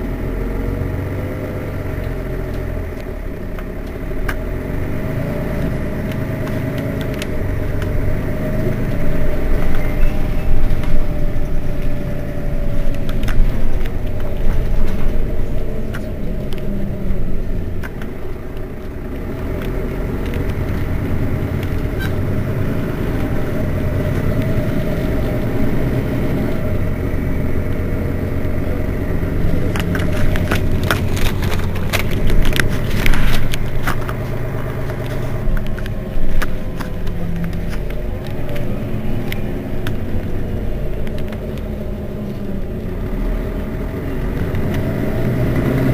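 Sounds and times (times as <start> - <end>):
bus engine idling: 0.0 - 45.9.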